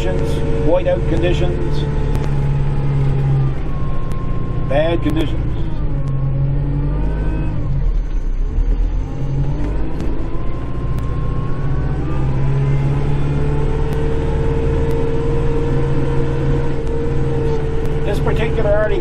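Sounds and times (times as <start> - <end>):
steady whine: 0.0 - 19.0
tractor diesel engine: 0.0 - 19.0.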